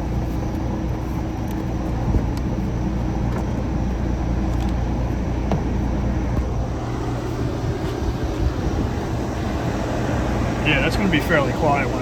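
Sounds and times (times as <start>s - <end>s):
compressor humming low: 0.0s - 12.0s
fan blowing air: 0.0s - 12.0s.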